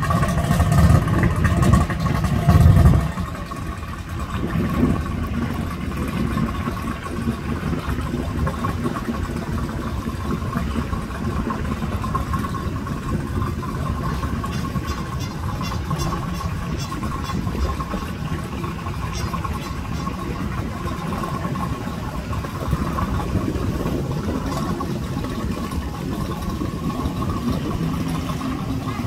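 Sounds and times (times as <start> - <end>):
jet ski engine idling: 0.0 - 29.0.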